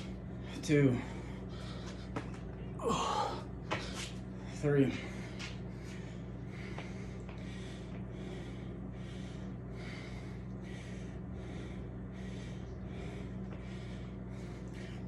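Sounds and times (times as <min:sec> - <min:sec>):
man breathing hard: 0:00.0 - 0:15.0
steady low hum: 0:00.0 - 0:15.0.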